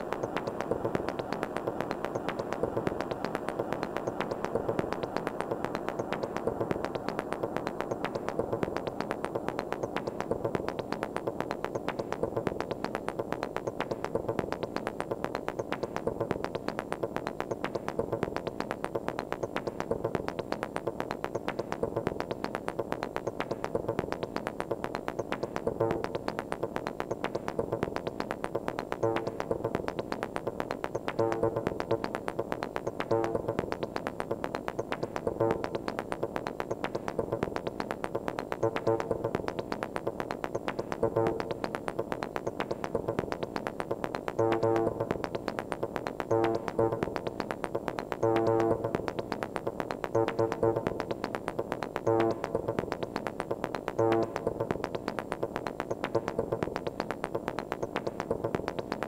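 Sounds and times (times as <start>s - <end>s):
looping techno beat: 0.0s - 59.0s.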